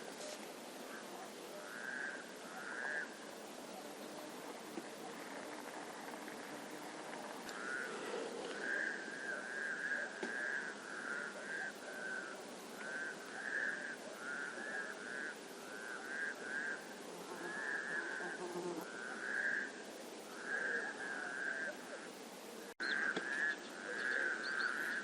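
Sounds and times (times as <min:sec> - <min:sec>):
steady outdoor hiss: 0:00.0 - 0:25.0
frog calling: 0:00.8 - 0:03.2, 0:04.8 - 0:16.9, 0:17.5 - 0:21.8, 0:22.8 - 0:25.0.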